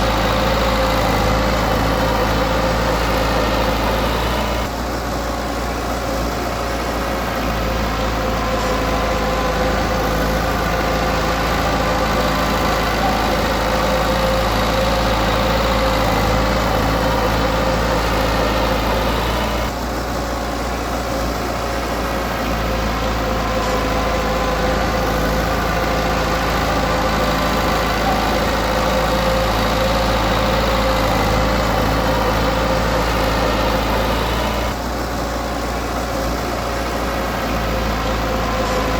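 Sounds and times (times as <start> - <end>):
diesel engine of heavy equipment: 0.0 - 38.9.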